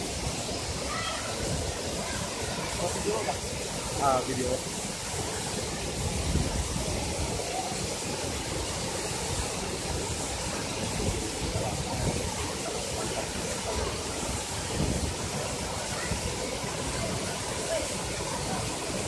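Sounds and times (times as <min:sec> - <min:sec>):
waterfall pouring into pool: 0:00.0 - 0:19.0.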